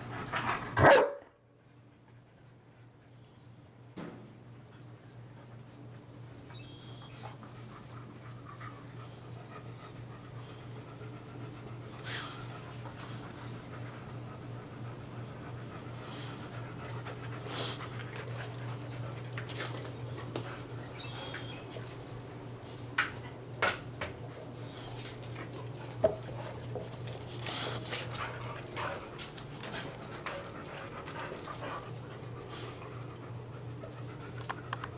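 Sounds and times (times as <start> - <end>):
dogs panting and sniffing: 0.0 - 0.9, 1.5 - 34.9
steady low hum: 0.0 - 34.9.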